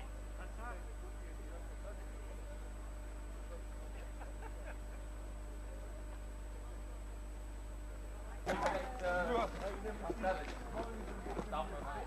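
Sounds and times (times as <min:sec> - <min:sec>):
faint distant voices: 0:00.0 - 0:12.0
recording hum and hiss: 0:00.0 - 0:12.0.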